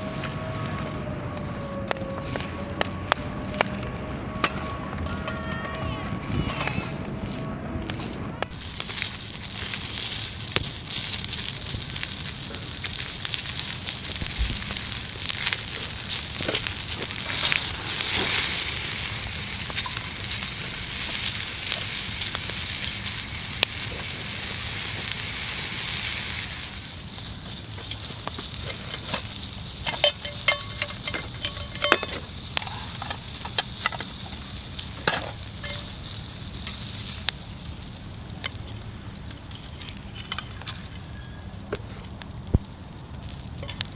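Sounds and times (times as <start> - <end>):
meat sizzling on a griddle: 0.0 - 43.9.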